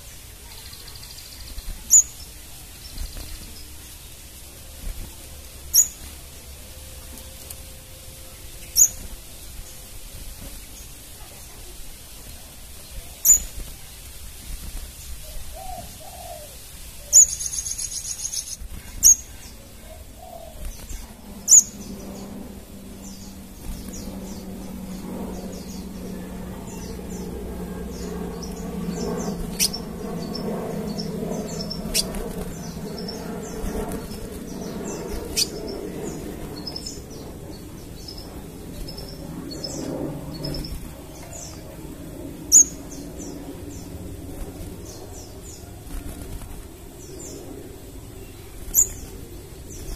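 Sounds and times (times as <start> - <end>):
bird chips and twittering: 0.0 - 49.9
low hum: 0.0 - 49.9.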